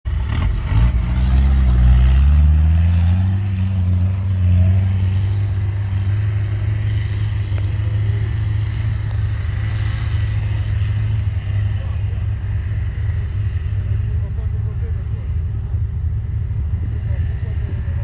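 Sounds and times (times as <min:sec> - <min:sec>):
diesel engine revving: 0:00.1 - 0:18.0.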